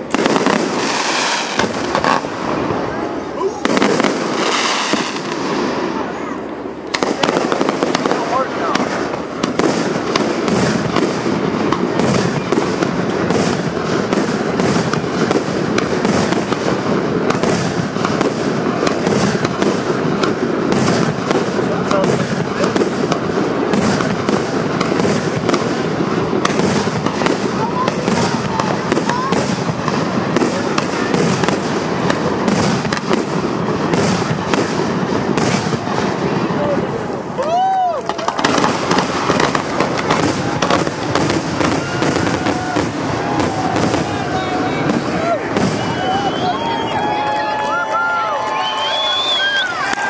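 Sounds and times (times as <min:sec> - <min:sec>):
fireworks bursting: 0:00.0 - 0:50.0.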